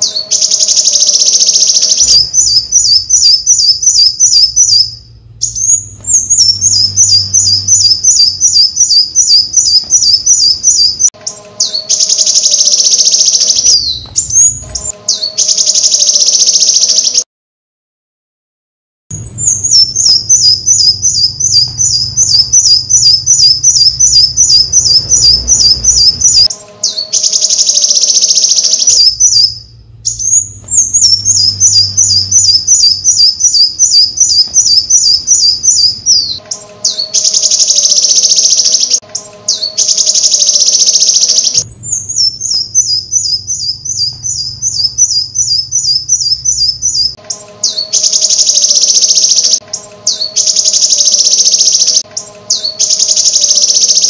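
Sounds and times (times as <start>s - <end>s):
high-pitched rapid chirps: 0.0s - 17.2s, 19.1s - 54.0s.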